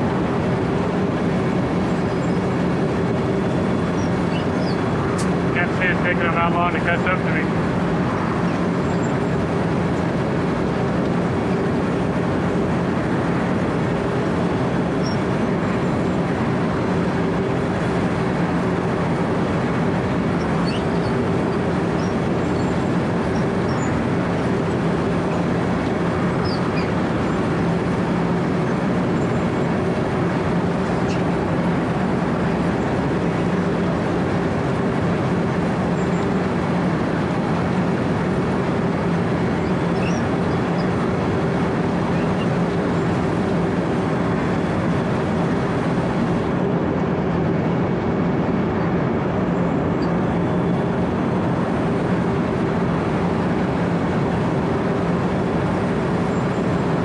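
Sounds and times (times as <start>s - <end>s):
milling machine diesel drone: 0.0s - 57.0s.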